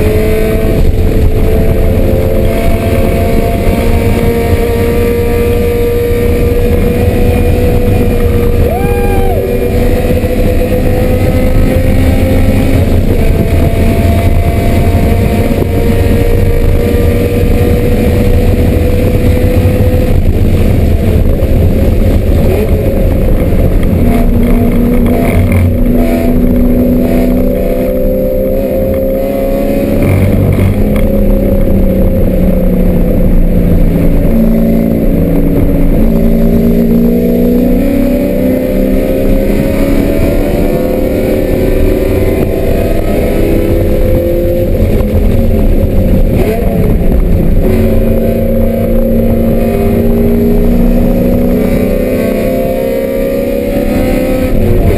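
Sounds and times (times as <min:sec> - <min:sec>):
car engine revving hard: 0:00.0 - 0:54.9.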